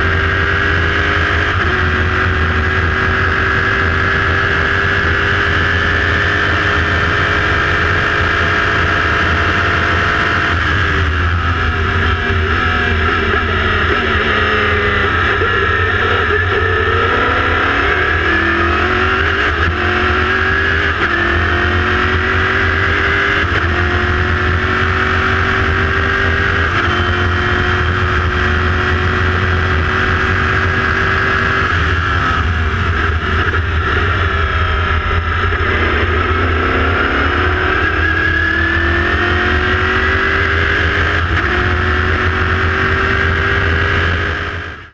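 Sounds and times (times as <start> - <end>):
race car engine upshifting: 0.4 - 44.8.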